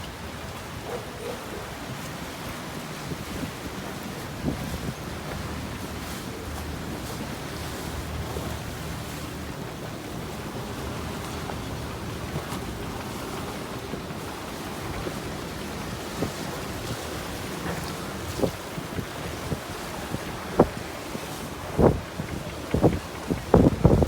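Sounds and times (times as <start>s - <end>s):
choppy water around boat: 0.0s - 24.0s
storm wind: 0.0s - 24.0s
wind buffeting microphone: 0.2s - 24.0s.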